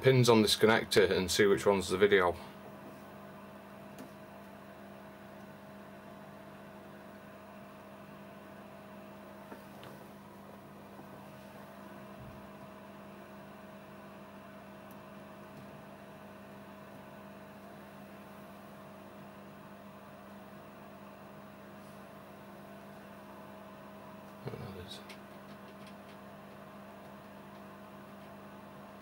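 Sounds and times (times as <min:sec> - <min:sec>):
faint electrical hum: 0:00.0 - 0:29.0.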